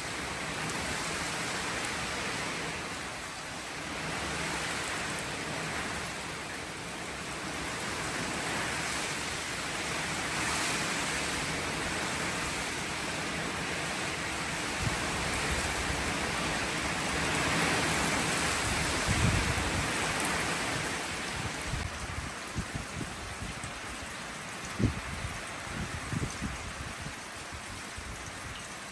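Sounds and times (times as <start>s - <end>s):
water rushing: 0.0s - 28.9s.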